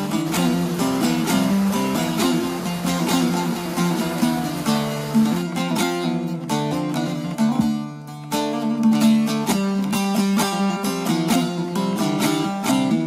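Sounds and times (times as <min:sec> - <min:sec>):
plucked string instruments: 0:00.0 - 0:13.0.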